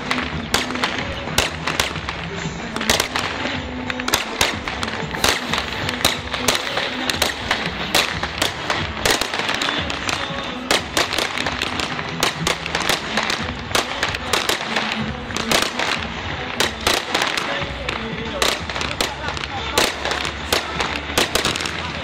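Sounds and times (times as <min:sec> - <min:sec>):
fireworks bursting with bangs and crackles: 0:00.0 - 0:22.0.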